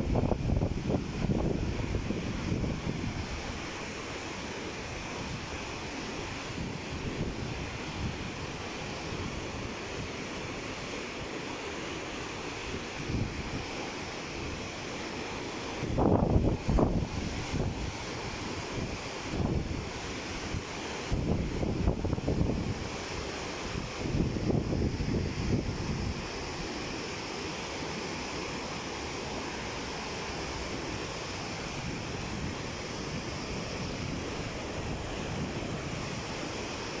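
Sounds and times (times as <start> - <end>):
wind rumble on microphone: 0.0 - 4.0, 4.8 - 10.8, 12.6 - 14.8, 15.6 - 27.0, 30.6 - 37.0
river water rushing over boulders: 0.0 - 37.0.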